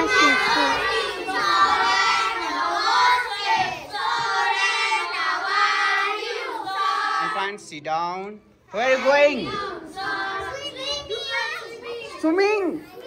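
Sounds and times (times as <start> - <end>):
children singing: 0.0 - 7.4, 8.8 - 12.0.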